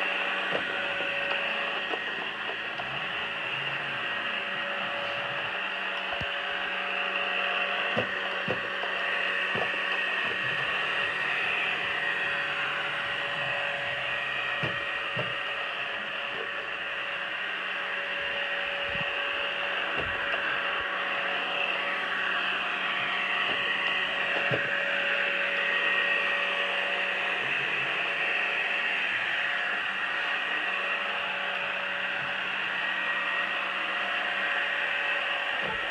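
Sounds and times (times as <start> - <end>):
robot vacuum whirring: 0.0 - 35.9.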